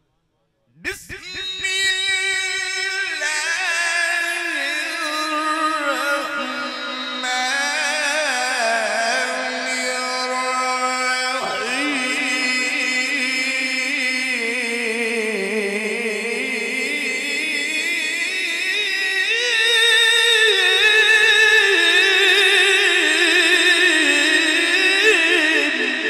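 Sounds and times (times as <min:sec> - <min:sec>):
man chanting melodically: 0:00.7 - 0:26.0.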